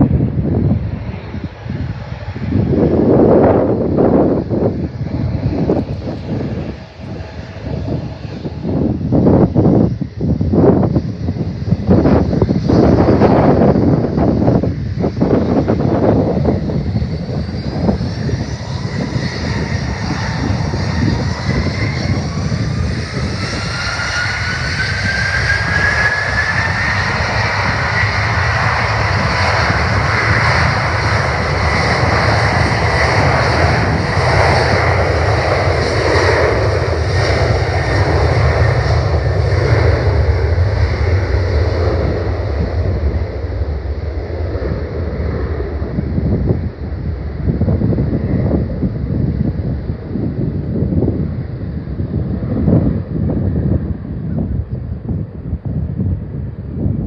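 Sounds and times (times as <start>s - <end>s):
jet airliner engine roar: 0.0s - 57.0s
turbofan whine: 0.0s - 57.0s.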